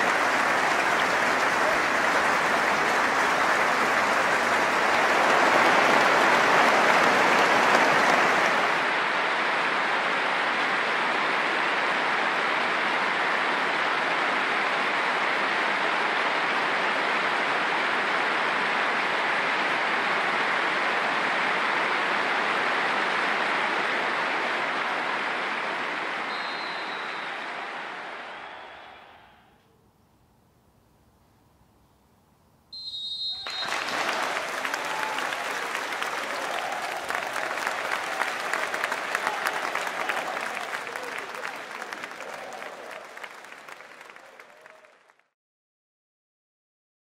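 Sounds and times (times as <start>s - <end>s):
stadium crowd applauding: 0.0s - 29.6s, 32.8s - 45.4s.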